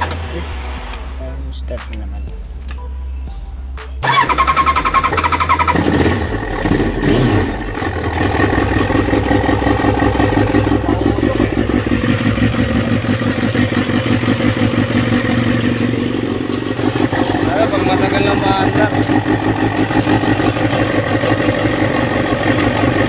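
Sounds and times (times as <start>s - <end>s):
motorcycle engine starting and running: 0.0s - 2.8s, 3.8s - 23.0s.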